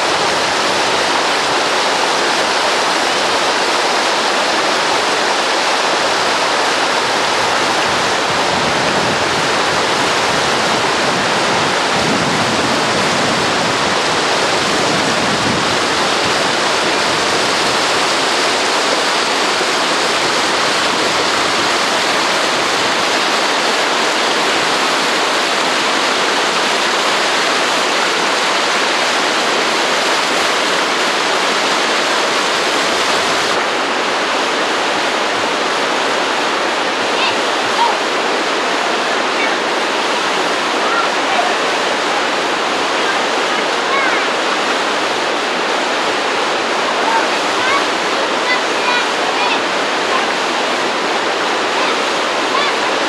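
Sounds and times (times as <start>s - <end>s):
rapids rushing over rock: 0.0s - 53.0s.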